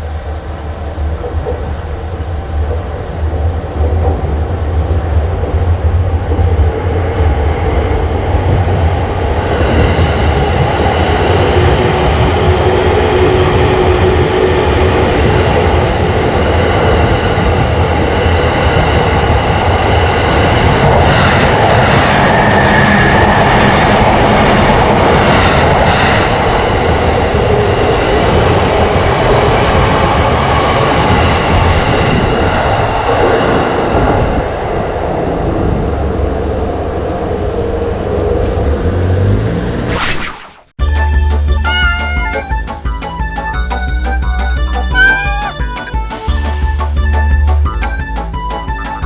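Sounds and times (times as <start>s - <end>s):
train rolling by: 0.0s - 38.5s, 40.8s - 49.0s.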